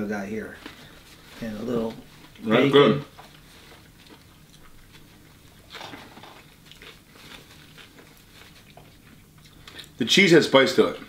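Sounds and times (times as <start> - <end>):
man chewing food: 0.6 - 10.0.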